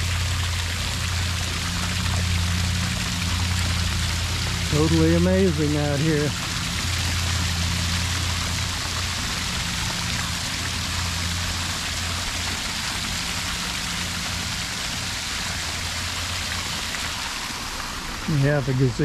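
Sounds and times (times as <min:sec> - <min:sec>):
fountain water splashing into basin: 0:00.0 - 0:19.0
low hum: 0:00.0 - 0:19.0.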